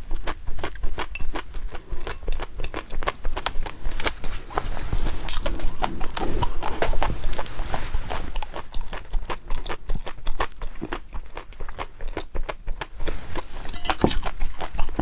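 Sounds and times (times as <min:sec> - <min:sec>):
chewing sticky food: 0:00.0 - 0:15.0.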